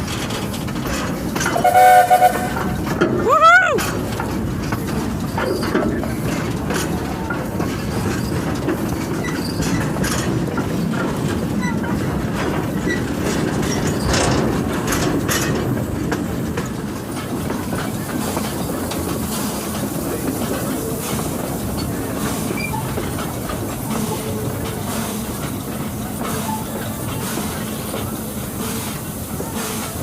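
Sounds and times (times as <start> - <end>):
train rumbling along track: 0.0 - 30.0
wheels clicking over rail joints: 0.0 - 30.0.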